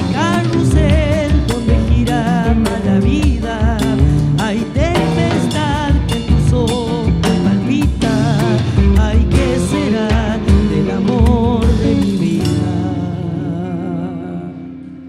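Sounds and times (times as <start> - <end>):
drum strikes: 0.0 - 12.8
acoustic guitar: 0.0 - 15.0
heavy bass notes: 0.0 - 15.0.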